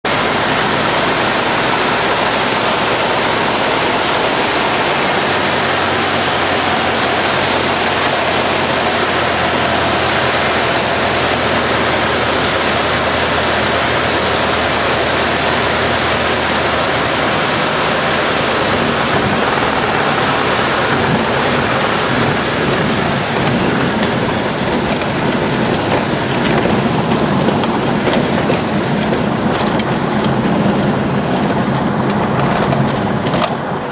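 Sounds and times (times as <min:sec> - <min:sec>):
light aircraft engine and propeller: 0:00.0 - 0:33.9.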